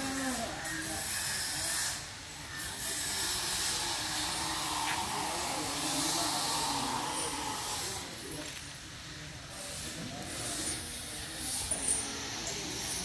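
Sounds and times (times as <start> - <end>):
faint distant voices: 0.0 - 13.0
steady outdoor hiss: 0.0 - 13.0.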